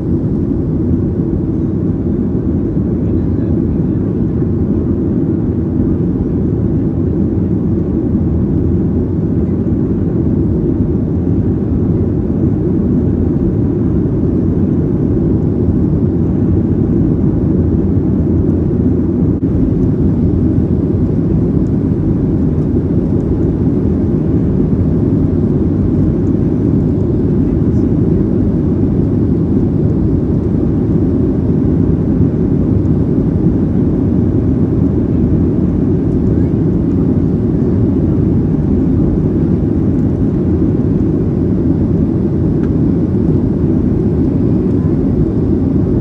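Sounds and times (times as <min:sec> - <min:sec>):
jet engine roar inside cabin: 0:00.0 - 0:46.0.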